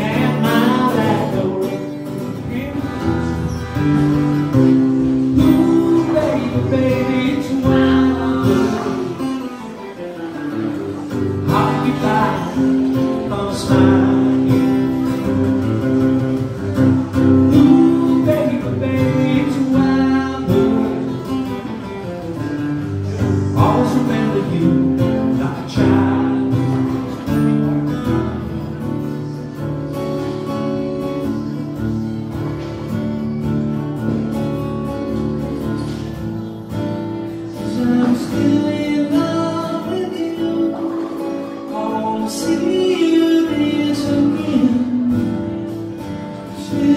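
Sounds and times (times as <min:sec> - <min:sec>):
acoustic guitar strumming: 0:00.0 - 0:46.9.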